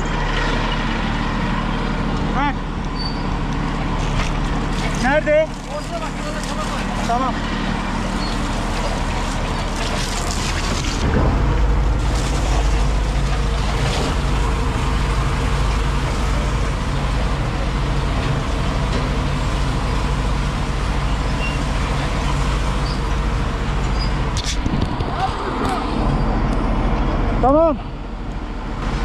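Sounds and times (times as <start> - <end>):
truck engine running: 0.0 - 29.0
water churning in a tank: 0.0 - 29.0.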